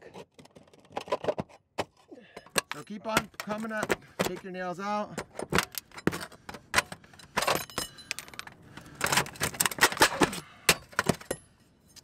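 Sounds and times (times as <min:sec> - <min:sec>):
pry bar scraping nails and shingles: 0:00.0 - 0:12.0.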